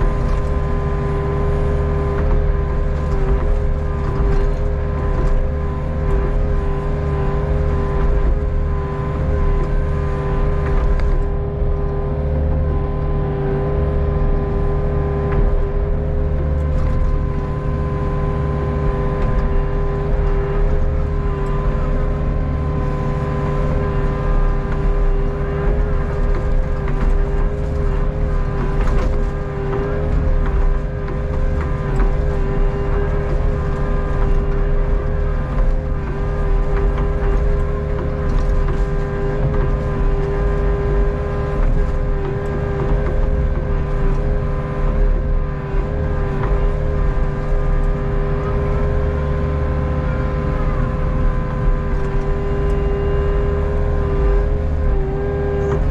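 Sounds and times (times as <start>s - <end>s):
excavator diesel engine running: 0.0s - 55.9s
steady whine: 0.0s - 55.9s.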